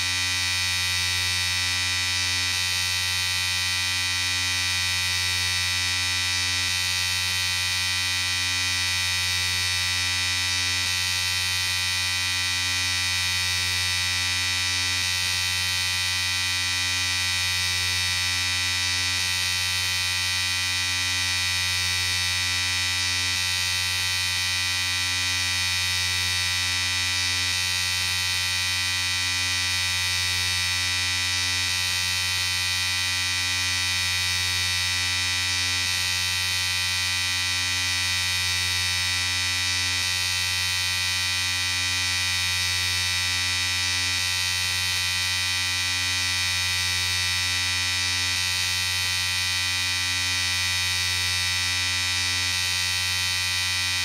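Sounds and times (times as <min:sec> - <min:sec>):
electric shaver buzzing: 0:00.0 - 0:54.0.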